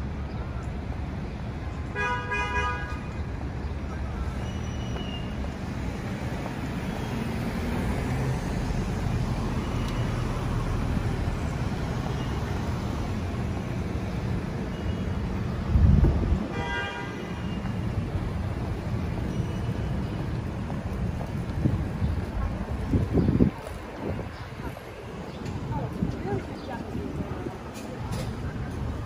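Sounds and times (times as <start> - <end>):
city street traffic rumbling: 0.0 - 29.0.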